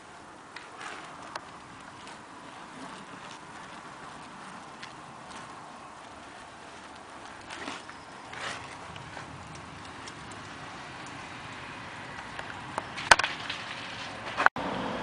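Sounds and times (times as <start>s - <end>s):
unicycle rolling on paving stones: 0.0s - 14.5s.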